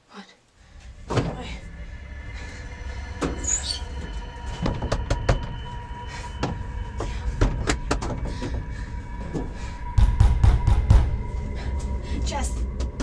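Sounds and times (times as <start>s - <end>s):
low rumbling drone: 0.6s - 13.0s.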